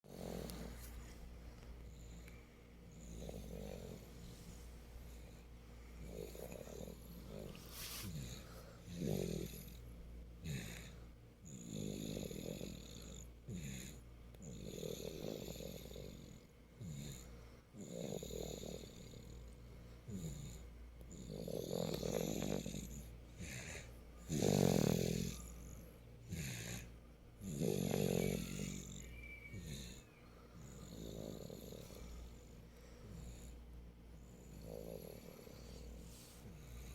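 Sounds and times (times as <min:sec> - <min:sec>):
quiet breath sounds: 0:00.0 - 0:36.9
loud snoring: 0:00.1 - 0:00.9, 0:02.9 - 0:04.2, 0:06.0 - 0:09.8, 0:10.4 - 0:19.5, 0:20.1 - 0:32.4, 0:33.0 - 0:33.6, 0:34.2 - 0:36.9.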